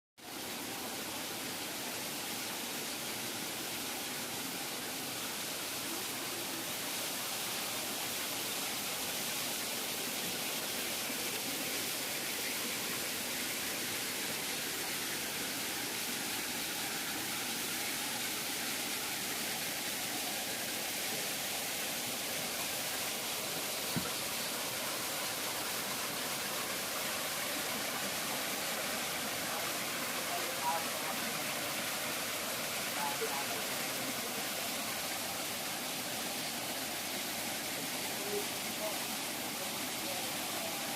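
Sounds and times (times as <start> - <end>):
waterfall rushing: 0.2 - 40.9.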